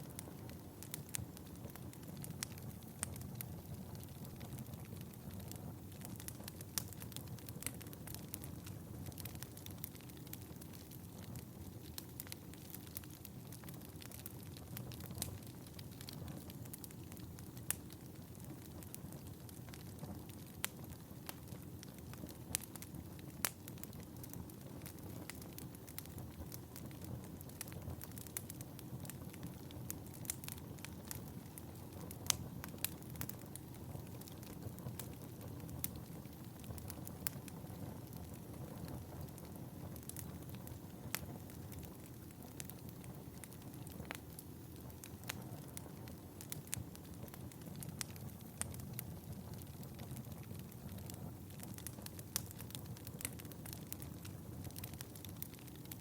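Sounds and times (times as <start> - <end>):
fire crackling and popping: 0.0 - 56.0
fire rumbling in fireplace: 0.0 - 56.0.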